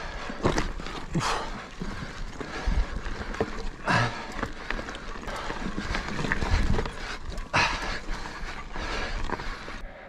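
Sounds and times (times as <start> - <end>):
bike knocks and rattles: 0.0 - 9.5
bike tyres on gravel: 0.0 - 10.0.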